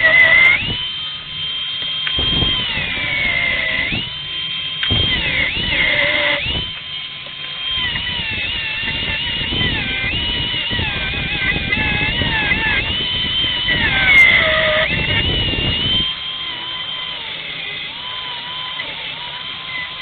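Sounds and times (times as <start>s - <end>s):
angle grinder cutting metal: 0.0s - 20.0s.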